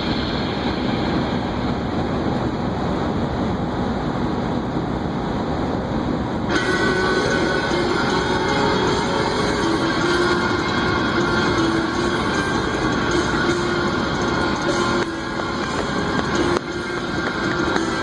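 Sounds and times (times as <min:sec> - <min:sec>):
steady tones: 0:00.0 - 0:05.4, 0:06.0 - 0:18.0
strong wind rumble: 0:00.0 - 0:18.0.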